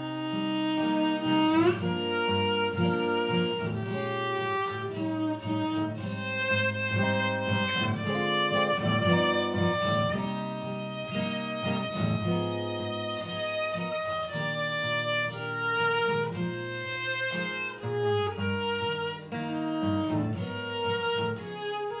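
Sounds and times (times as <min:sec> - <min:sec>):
bowed string melody: 0:00.0 - 0:22.0.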